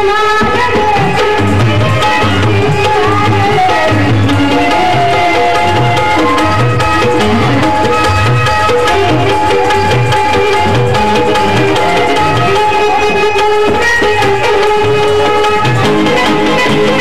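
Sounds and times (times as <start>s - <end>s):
tabla rhythm: 0.0s - 17.0s.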